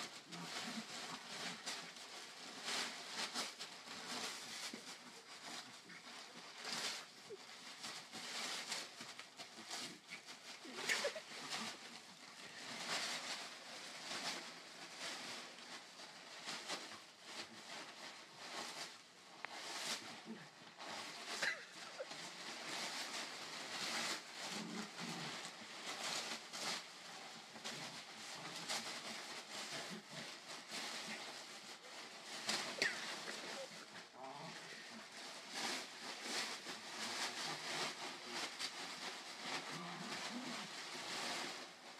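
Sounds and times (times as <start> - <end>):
packing paper crinkling: 0.1 - 41.9.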